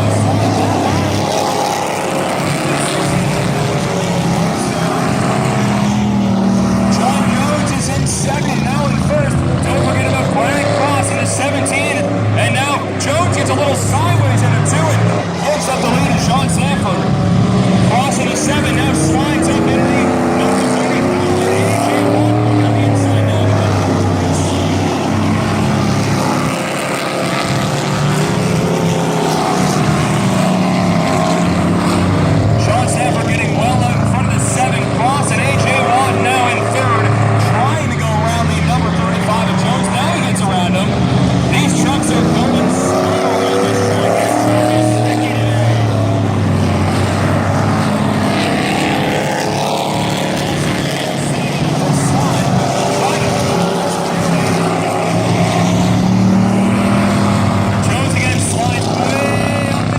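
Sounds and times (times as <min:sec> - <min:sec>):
race truck engines roaring: 0:00.0 - 0:59.9.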